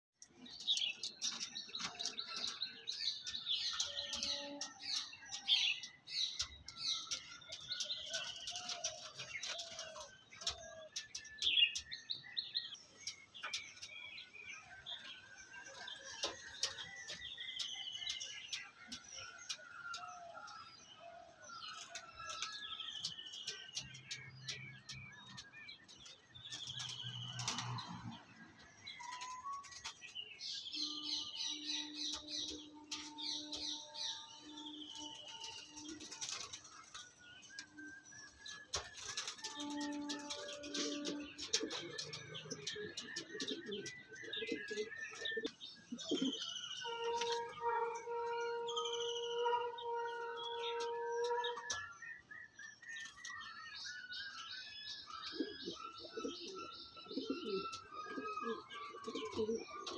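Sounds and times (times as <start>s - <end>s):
small birds chirping: 0.2s - 59.9s.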